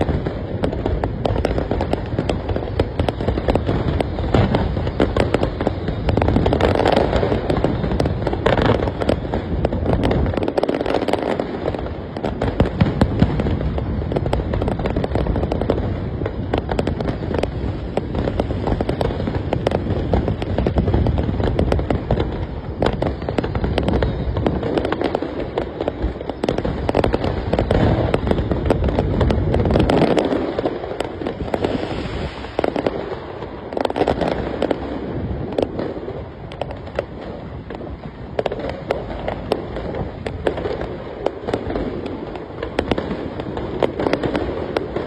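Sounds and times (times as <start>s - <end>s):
fireworks booming and crackling: 0.0s - 45.0s.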